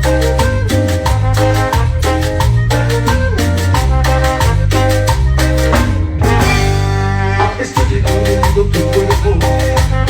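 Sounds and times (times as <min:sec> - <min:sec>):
live band playing latin dance music: 0:00.0 - 0:10.0.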